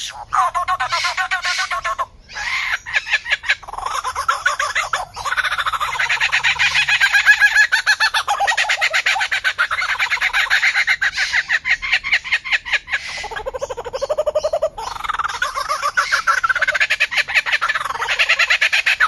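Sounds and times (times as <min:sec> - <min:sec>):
bird calling rapidly: 0:00.0 - 0:19.0.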